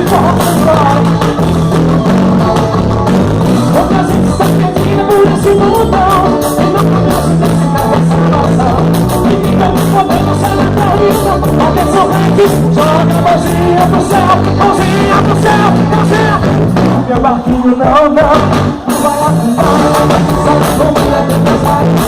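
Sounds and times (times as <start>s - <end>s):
forro band music: 0.0s - 22.0s.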